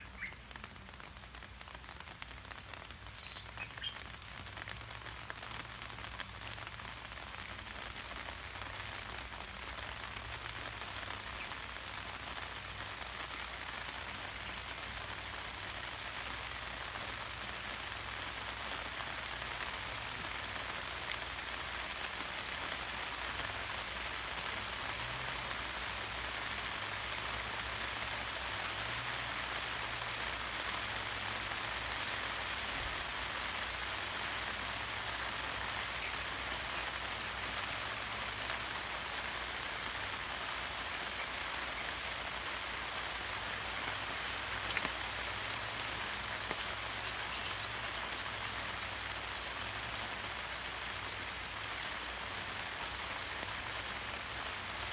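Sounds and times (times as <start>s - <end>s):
rain pattering on surfaces: 0.0s - 54.9s.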